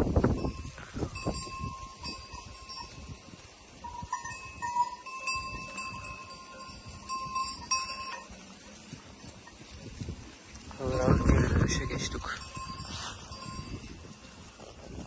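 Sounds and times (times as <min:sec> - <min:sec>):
sheep neck bells ringing: 0:00.2 - 0:15.0.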